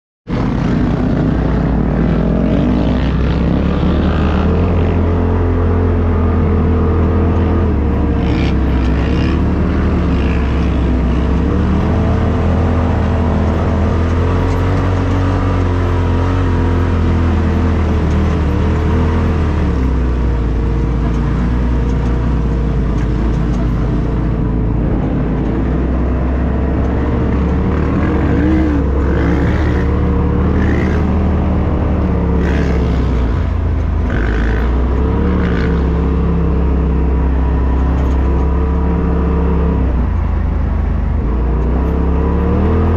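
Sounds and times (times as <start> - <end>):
engine running under load: 0.3 - 42.9.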